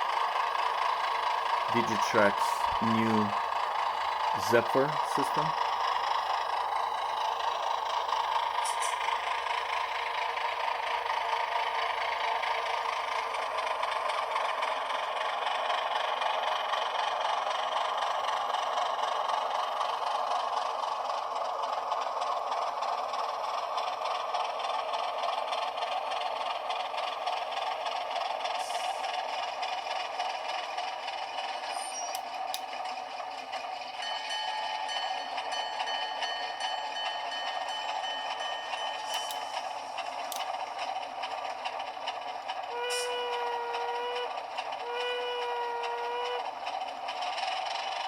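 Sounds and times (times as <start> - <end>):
thin fast engine chug: 0.0 - 48.0.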